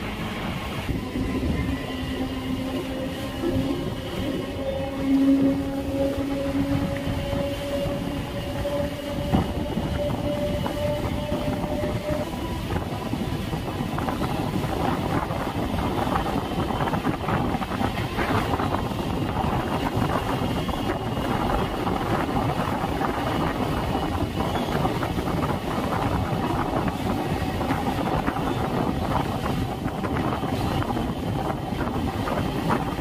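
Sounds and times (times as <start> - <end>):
train wheels rumbling on rails: 0.0 - 33.0
wind rushing on microphone: 0.0 - 33.0.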